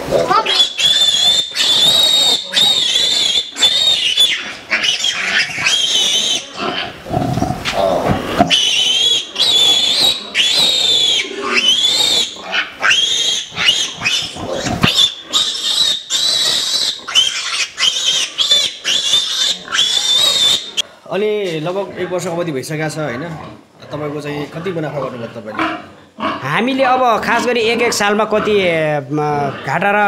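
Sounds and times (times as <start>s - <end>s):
pigs squealing: 0.0s - 20.9s, 23.1s - 28.7s.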